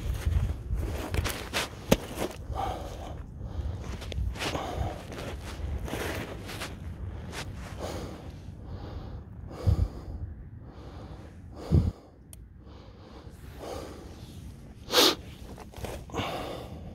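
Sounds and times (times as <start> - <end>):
close-up breathing: 0.7 - 16.9.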